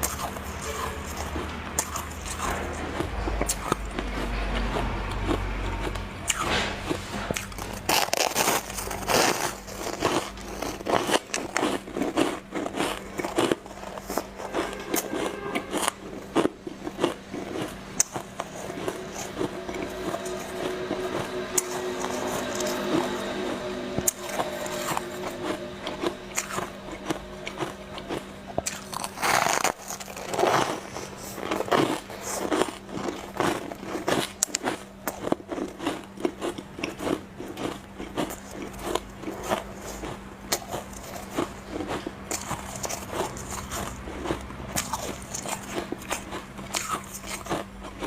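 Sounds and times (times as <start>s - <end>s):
person chewing shaved ice: 0.0s - 48.0s.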